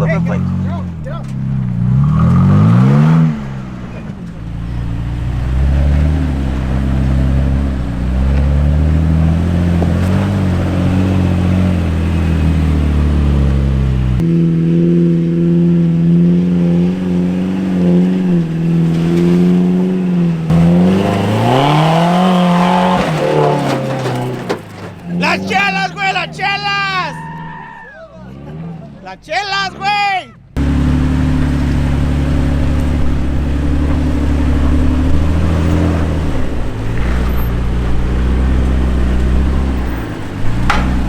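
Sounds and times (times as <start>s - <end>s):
truck engine revving under load: 0.0s - 29.1s, 29.7s - 41.0s.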